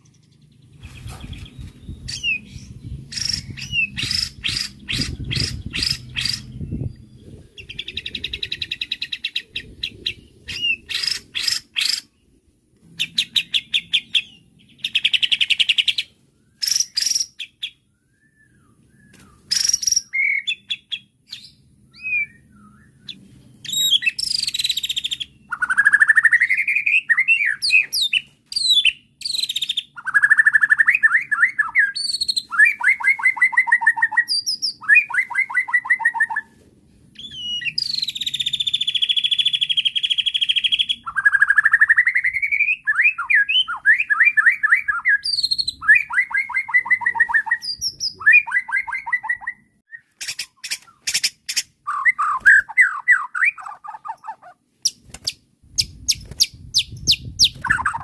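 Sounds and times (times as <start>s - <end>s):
songbird singing whistles and trills: 0.0s - 12.1s, 13.0s - 36.6s, 37.2s - 58.0s.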